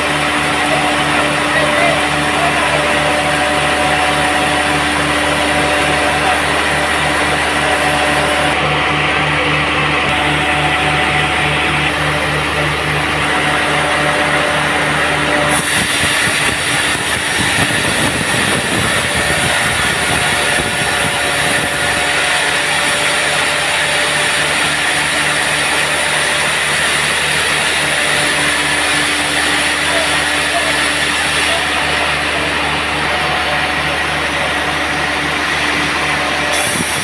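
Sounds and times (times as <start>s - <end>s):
sawmill machine running: 0.0s - 37.0s.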